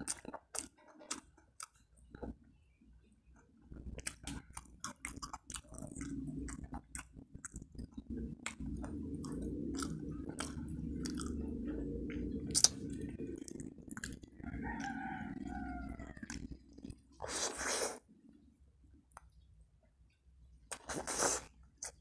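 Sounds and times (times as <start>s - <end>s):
close-miked chewing: 0.0s - 2.6s, 3.2s - 18.1s, 20.7s - 22.0s.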